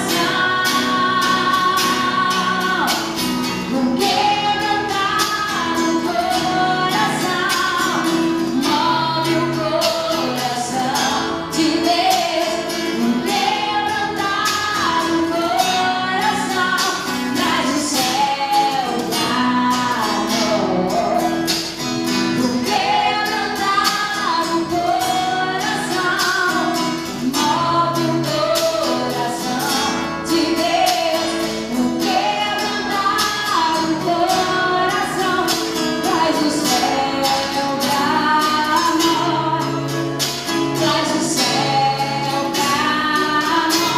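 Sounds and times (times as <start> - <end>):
gospel band music: 0.0 - 43.9
woman singing: 0.0 - 43.9.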